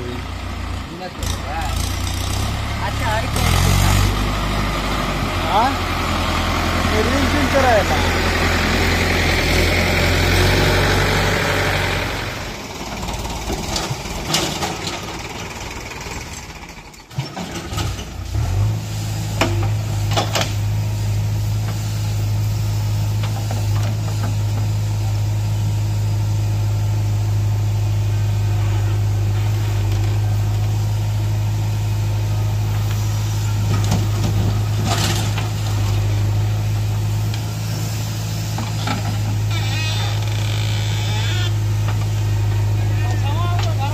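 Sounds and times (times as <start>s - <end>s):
diesel engine humming: 0.0s - 43.9s
tractor engine running loudly: 0.0s - 43.9s.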